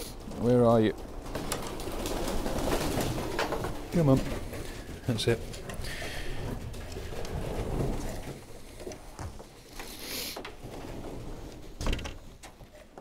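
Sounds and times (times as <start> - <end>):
rustling movement: 0.0 - 13.0.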